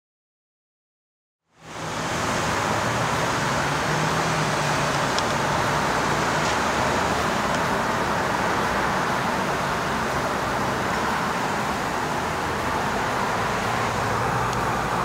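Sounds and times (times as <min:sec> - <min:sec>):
cars driving past: 0:01.6 - 0:15.0
low engine hum: 0:01.6 - 0:15.0.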